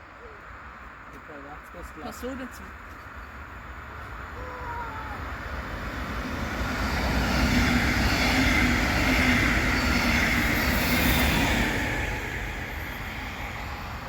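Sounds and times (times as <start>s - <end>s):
passenger train passing: 0.4s - 14.0s.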